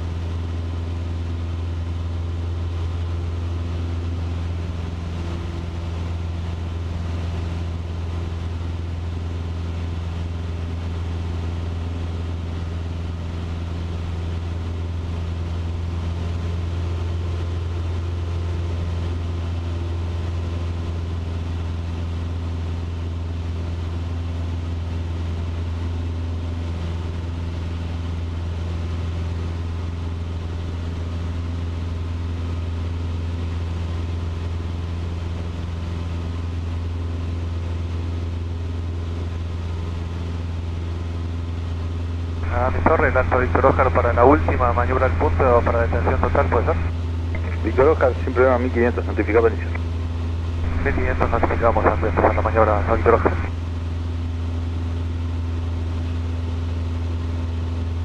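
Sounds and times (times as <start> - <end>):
airplane engine droning in cabin: 0.0 - 58.0.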